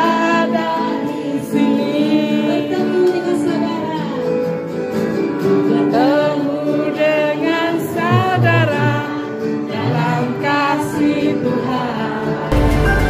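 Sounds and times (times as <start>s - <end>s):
song with singing: 0.0s - 4.6s, 5.5s - 13.0s.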